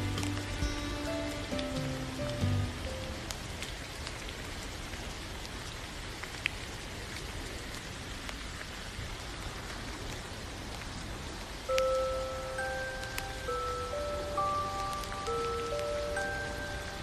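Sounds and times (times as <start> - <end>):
raindrop ticks: 0.0 - 17.0
steady rain falling: 0.0 - 17.0.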